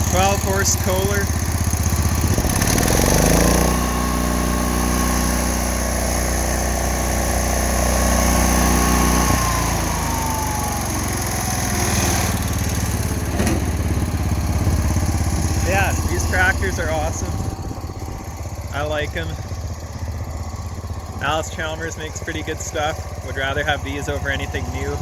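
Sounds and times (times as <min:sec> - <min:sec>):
thin engine whine: 0:00.0 - 0:25.0
tractor engine running at high speed: 0:00.0 - 0:25.0.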